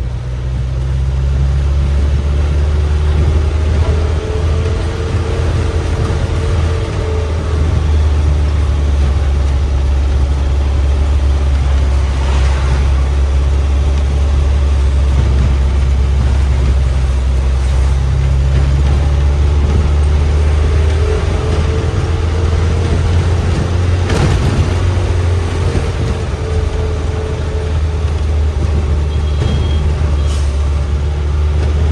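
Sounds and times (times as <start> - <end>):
bus diesel engine drone: 0.0 - 31.9.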